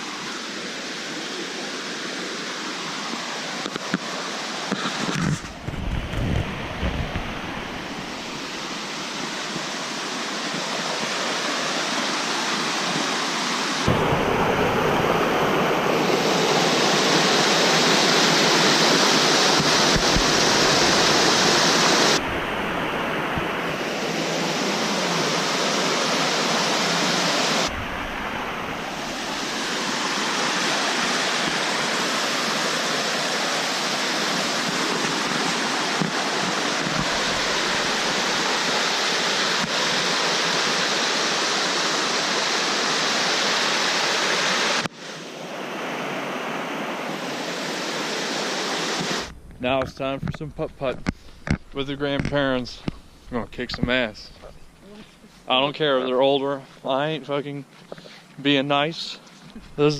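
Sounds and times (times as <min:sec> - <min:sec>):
waterfall rushing: 0:00.0 - 0:49.3.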